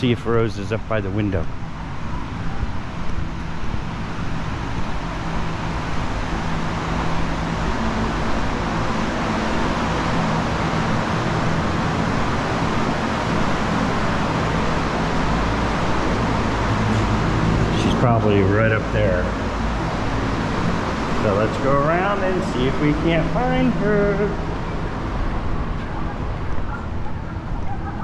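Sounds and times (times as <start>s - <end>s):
mechanical hum: 0.0s - 28.0s
even rushing noise: 3.6s - 27.7s.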